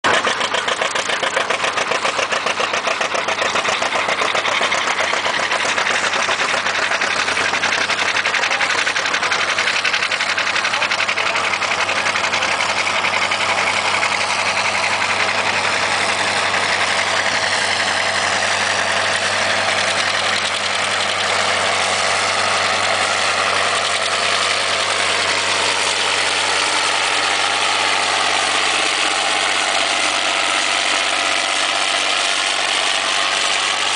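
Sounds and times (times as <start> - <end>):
tractor diesel engine under load: 0.0 - 33.9.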